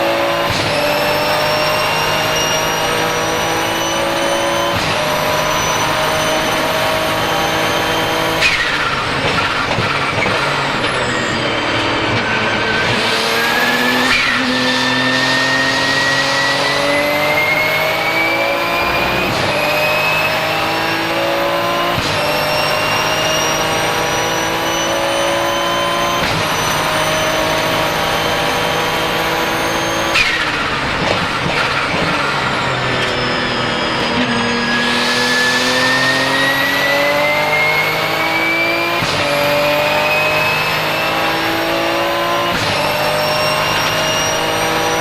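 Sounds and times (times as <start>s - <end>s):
race car engine accelerating: 0.0s - 45.0s
turbo whistle: 0.6s - 45.0s.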